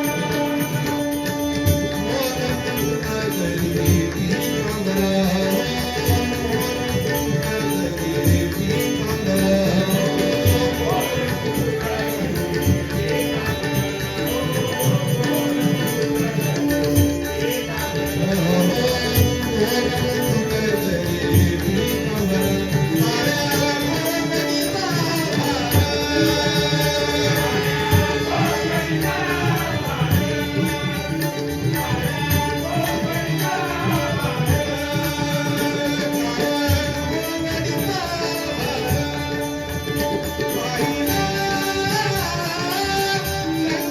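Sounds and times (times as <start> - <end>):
instrumental accompaniment: 0.0 - 43.9
person singing devotional song: 0.0 - 43.9
tabla drumming: 0.0 - 43.9.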